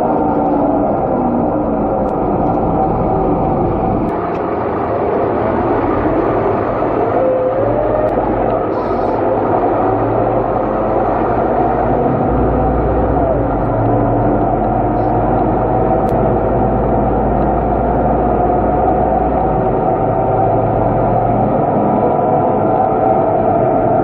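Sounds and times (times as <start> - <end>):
bus engine drone from inside: 0.0 - 24.0.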